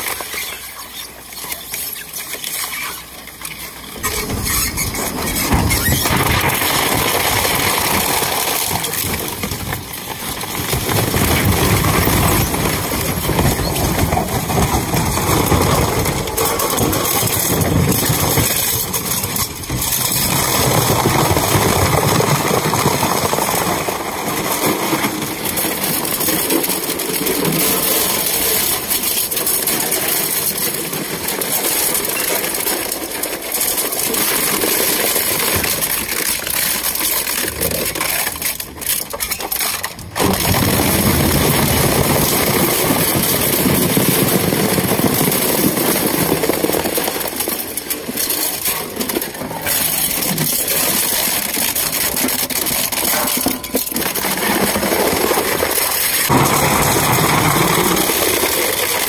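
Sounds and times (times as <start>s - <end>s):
shredder crushing and cracking: 0.0s - 59.0s.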